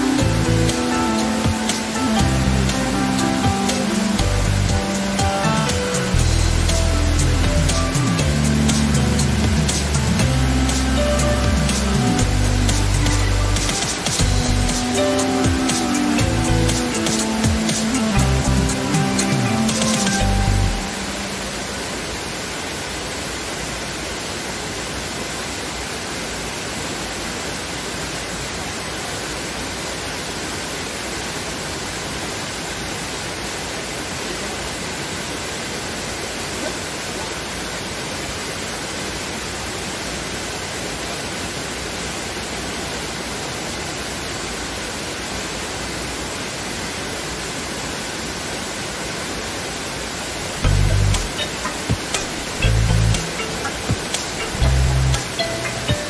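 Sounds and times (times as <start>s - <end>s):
waterfall rushing into pool: 0.0s - 56.0s.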